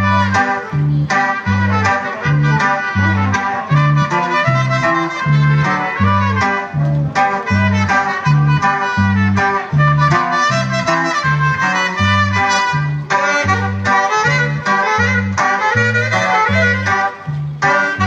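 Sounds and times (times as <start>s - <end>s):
brass band dance music: 0.0s - 18.0s
two-beat bass line: 0.0s - 18.0s.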